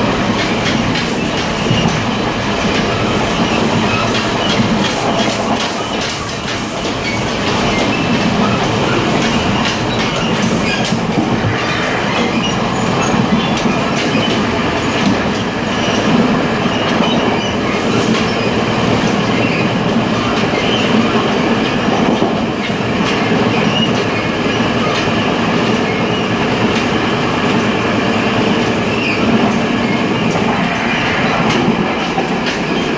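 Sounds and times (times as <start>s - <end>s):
train wheel-and-rail noise: 0.0s - 32.9s.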